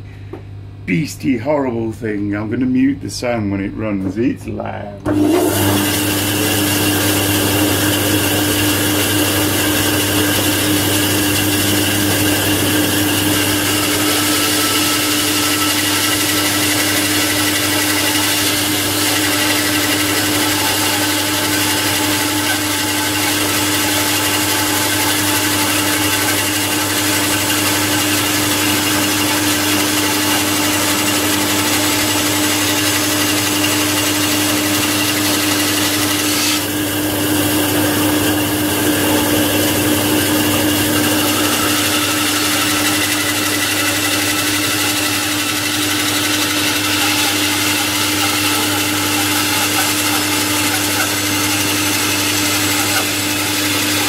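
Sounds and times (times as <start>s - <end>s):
bandsaw cutting timber: 5.1s - 54.0s.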